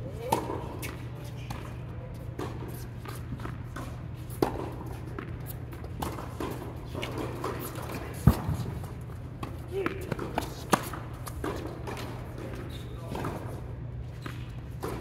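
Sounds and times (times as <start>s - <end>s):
steady low hum: 0.0s - 15.0s
balls bouncing on hard court: 0.2s - 15.0s
tennis balls struck by rackets: 0.2s - 15.0s.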